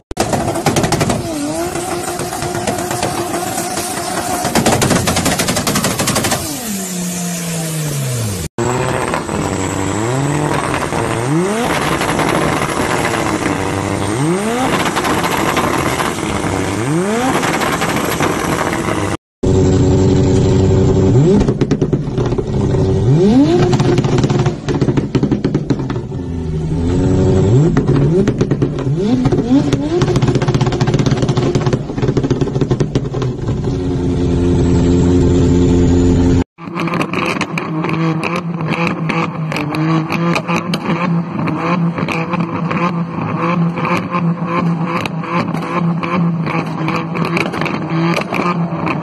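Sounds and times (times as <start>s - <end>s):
car engines revving: 0.2s - 49.0s.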